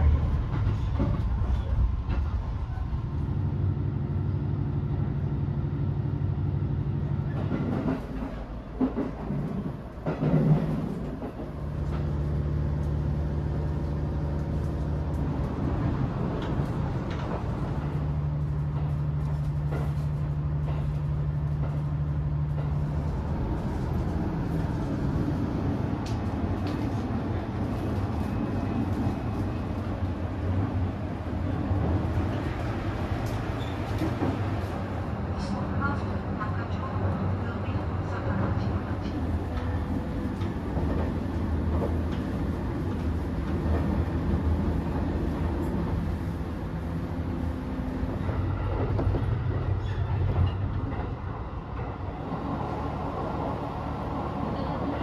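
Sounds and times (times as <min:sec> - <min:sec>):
train running inside carriage: 0:00.0 - 0:55.0.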